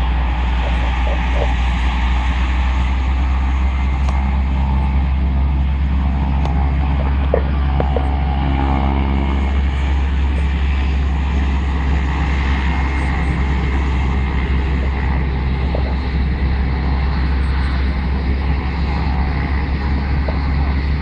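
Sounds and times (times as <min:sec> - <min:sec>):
turbine aircraft running: 0:00.0 - 0:21.0.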